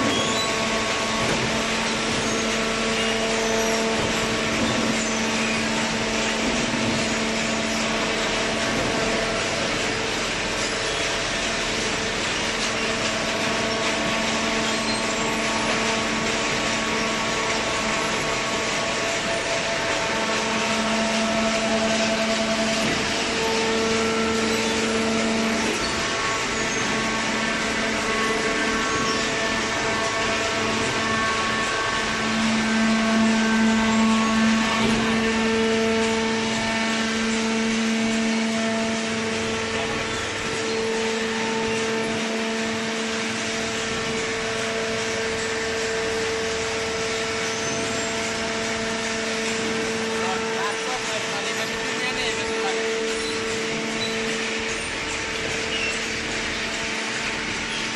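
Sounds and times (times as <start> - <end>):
baler machine drone: 0.0 - 57.9
pump motor whine: 0.0 - 57.9.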